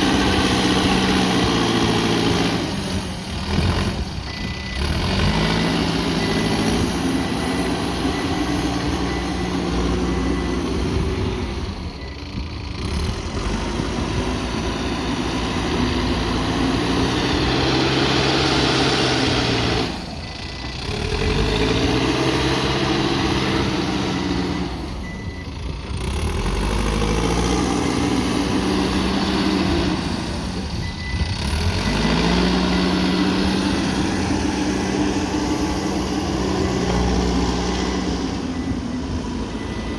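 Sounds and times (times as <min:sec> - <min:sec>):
backhoe diesel engine revving: 0:00.0 - 0:39.9.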